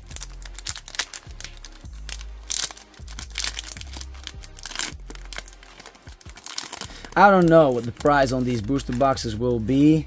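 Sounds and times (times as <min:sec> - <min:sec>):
background music: 0:00.0 - 0:10.0
foil wrapper crinkling: 0:00.0 - 0:10.0.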